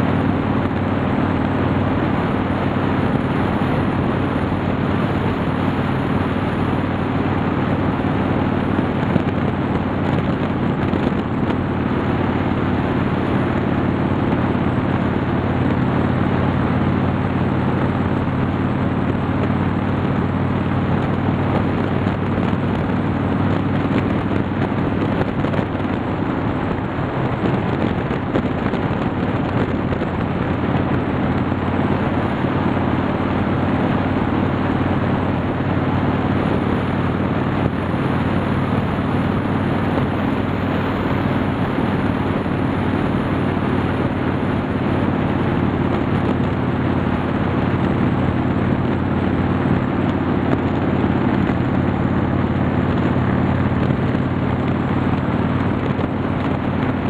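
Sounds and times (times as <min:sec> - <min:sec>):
motorcycle engine cruising: 0:00.0 - 0:57.0
wind noise: 0:00.0 - 0:57.0.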